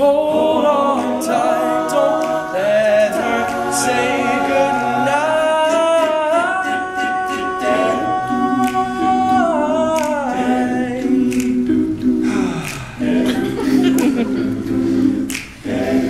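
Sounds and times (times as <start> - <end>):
male a cappella group singing: 0.0 - 16.0.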